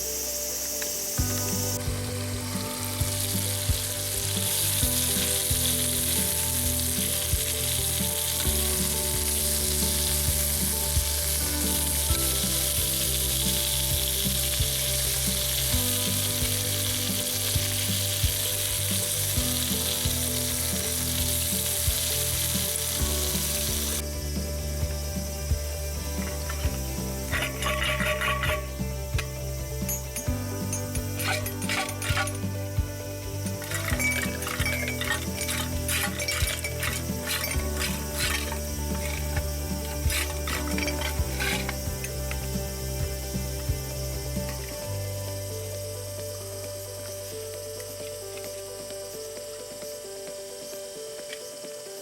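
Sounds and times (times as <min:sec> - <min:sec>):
background music: 0:00.0 - 0:52.0
food sizzling: 0:00.0 - 0:52.0.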